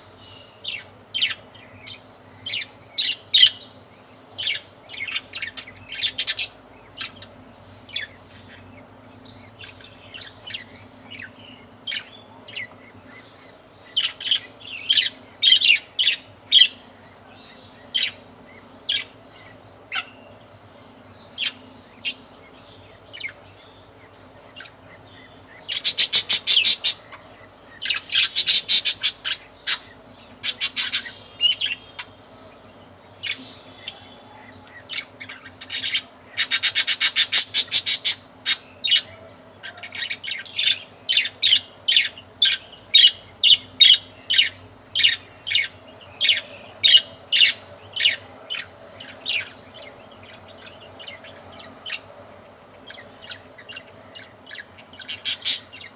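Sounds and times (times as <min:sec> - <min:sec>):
budgerigars chirping: 0:00.2 - 0:20.5, 0:21.2 - 0:55.9
rapid bird chattering: 0:00.4 - 0:55.9.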